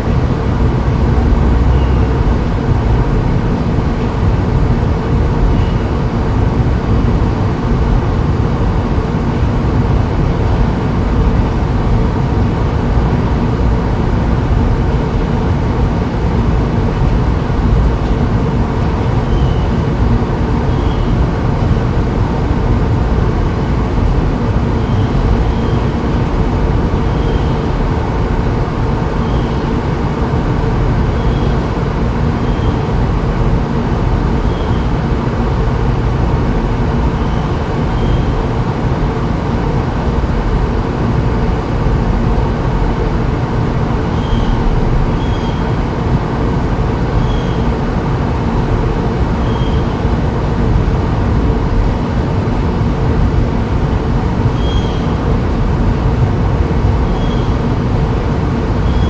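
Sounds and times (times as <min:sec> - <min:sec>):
vehicle running rumble: 0:00.0 - 0:59.0.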